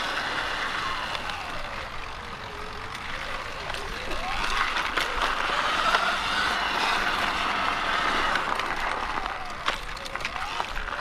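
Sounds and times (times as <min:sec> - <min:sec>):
faint electric motor whine: 0:00.0 - 0:11.0
tyre and riding noise: 0:00.0 - 0:11.0
small clicks from the ground: 0:00.1 - 0:11.0.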